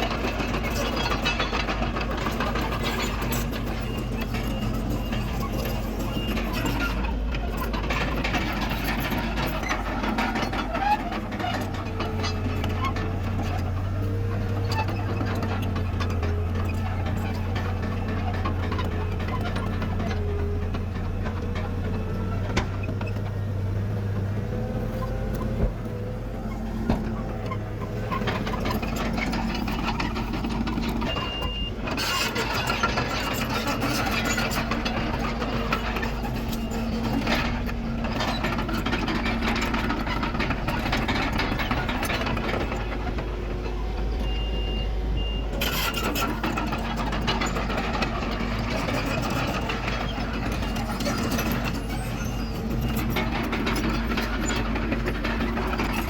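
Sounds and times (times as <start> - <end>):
blade working dirt: 0.0 - 56.0
diesel engine under load: 0.0 - 56.0
tracks clattering: 0.0 - 56.0.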